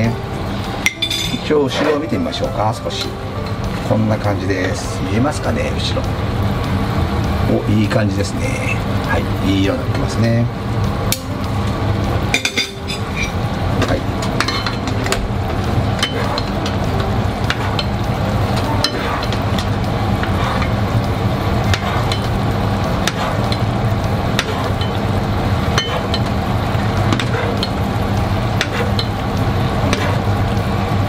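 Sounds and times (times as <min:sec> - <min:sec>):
chicken simmering in a frying pan: 0:01.5 - 0:12.3, 0:13.4 - 0:31.0.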